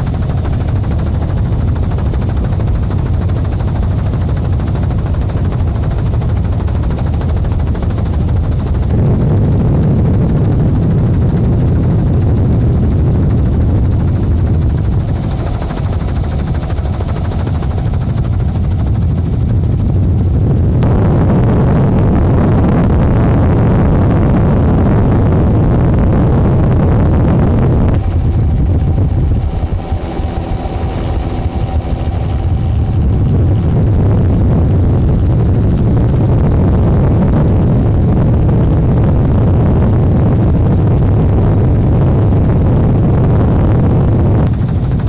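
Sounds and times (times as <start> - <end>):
helicopter engine and rotor: 0.0 - 45.0.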